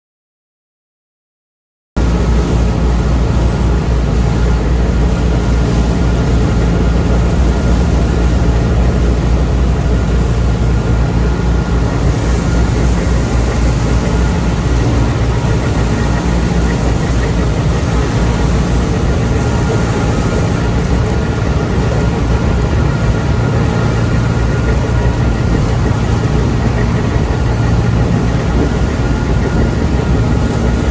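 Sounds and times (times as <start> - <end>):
tractor engine running: 2.0 - 30.9.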